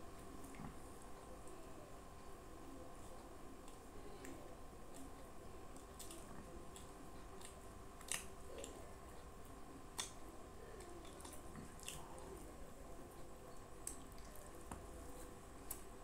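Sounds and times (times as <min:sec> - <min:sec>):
chewing: 0:00.3 - 0:01.6, 0:03.0 - 0:16.0
fingers squishing wet rice: 0:02.9 - 0:16.0.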